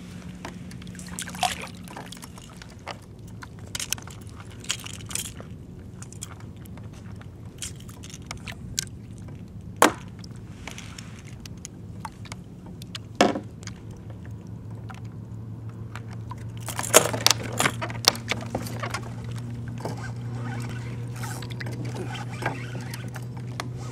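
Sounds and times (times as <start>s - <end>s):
low steady hum: 0.0s - 23.9s
fishing tackle clicks and rattles: 0.7s - 15.1s, 15.7s - 23.7s.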